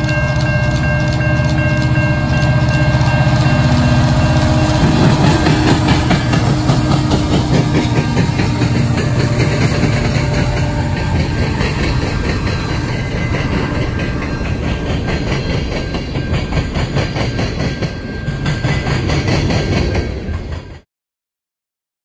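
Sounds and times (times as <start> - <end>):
train wheels clattering on rails: 0.0 - 20.8.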